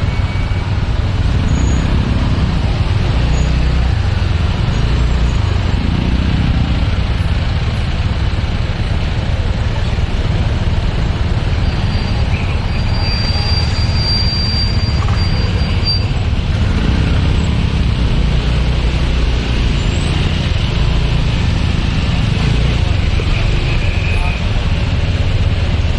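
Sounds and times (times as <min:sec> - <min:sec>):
traffic engines rumbling: 0:00.0 - 0:25.9.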